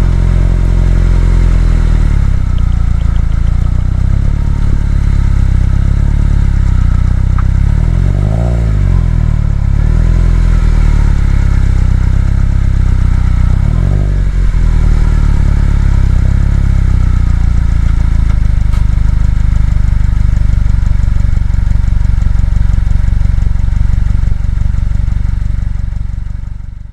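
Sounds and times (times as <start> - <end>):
car engine running at low revs: 0.0 - 26.9.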